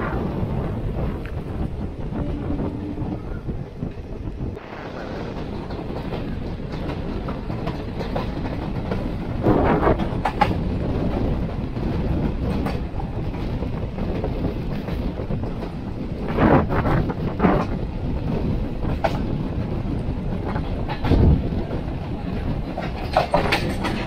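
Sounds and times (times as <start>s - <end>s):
clickety-clack of rail joints: 0.0s - 24.0s
train wheels rumbling on track: 0.0s - 24.0s.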